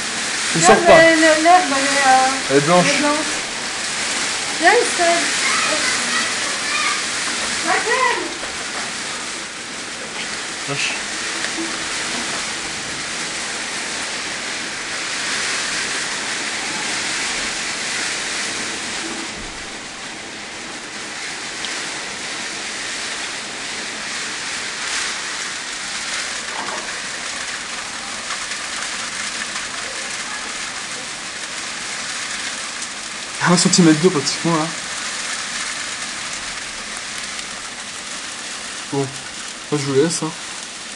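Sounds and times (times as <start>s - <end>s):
heavy rain and hail behind window: 0.0s - 40.9s.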